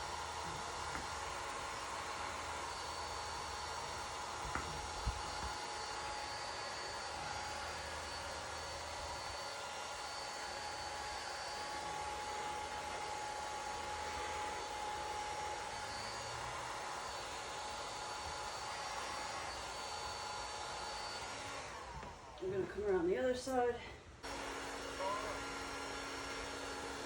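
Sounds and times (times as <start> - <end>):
heat gun hissing and whining: 0.0 - 27.0.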